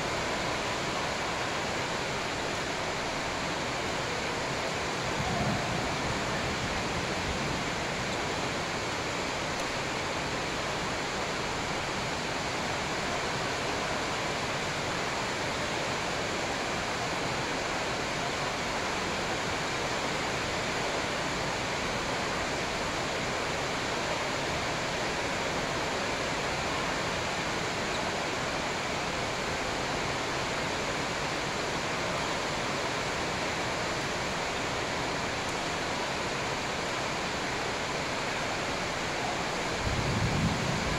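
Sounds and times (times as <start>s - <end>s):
steady rushing hiss: 0.0s - 40.9s.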